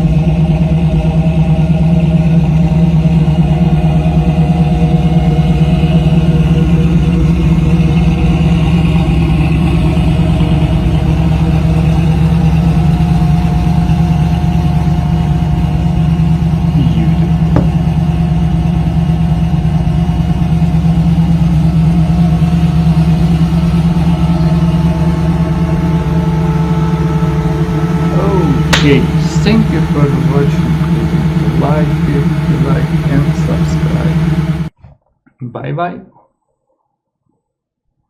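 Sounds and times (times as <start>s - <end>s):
car engine idling loudly: 0.0s - 34.7s.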